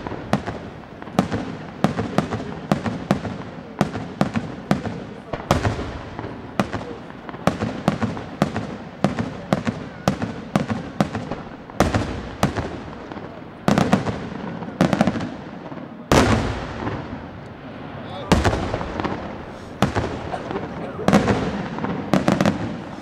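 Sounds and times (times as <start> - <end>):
firework shells bursting: 0.0 - 23.0.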